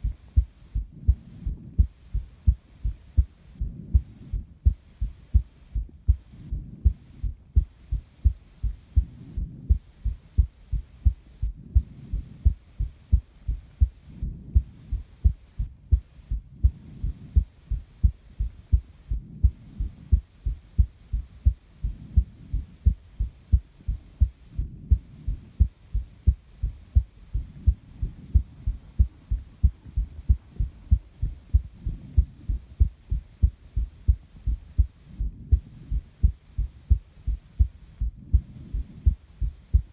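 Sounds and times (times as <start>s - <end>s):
heartbeat thumps: 0.0s - 39.9s
soft breathing: 0.0s - 39.9s.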